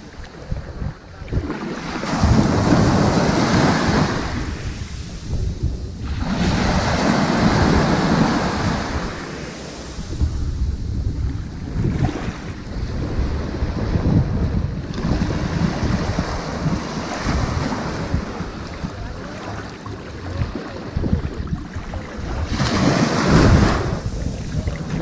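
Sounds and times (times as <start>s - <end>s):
waves breaking on a beach: 0.0s - 25.0s
wind rumble on microphone: 0.0s - 25.0s.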